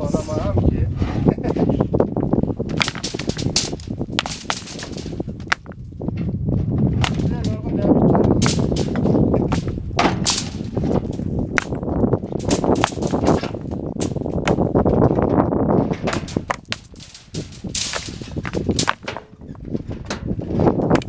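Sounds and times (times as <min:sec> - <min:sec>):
stones clacking on stone: 0:02.7 - 0:05.8, 0:07.0 - 0:21.0.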